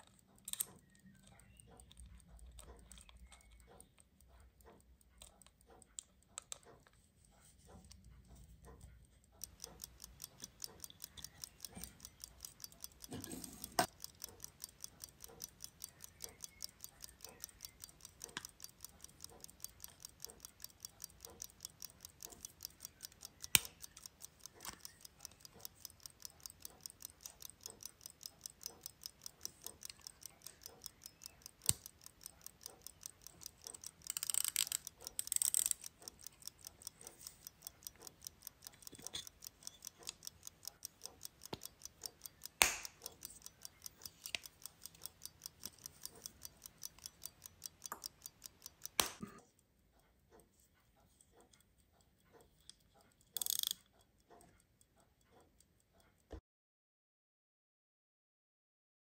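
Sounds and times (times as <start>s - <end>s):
pocket watch ticking: 0.0s - 56.3s.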